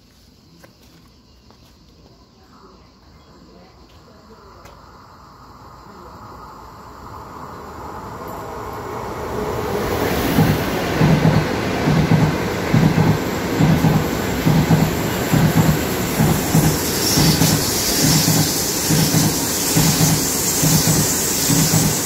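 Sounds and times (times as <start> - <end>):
high-speed train roaring past: 3.8 - 22.0.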